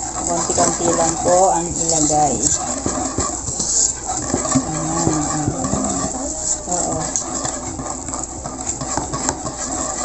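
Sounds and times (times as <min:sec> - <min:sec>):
whisk stirring batter in bowl: 0:00.0 - 0:10.0.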